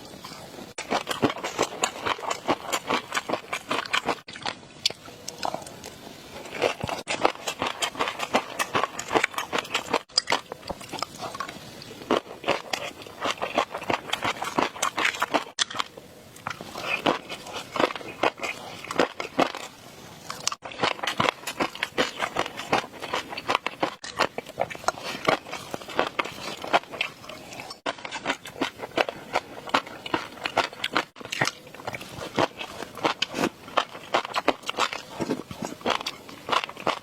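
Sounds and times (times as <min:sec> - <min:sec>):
wet chewing clicks: 0:06.5 - 0:19.7, 0:20.3 - 0:37.0.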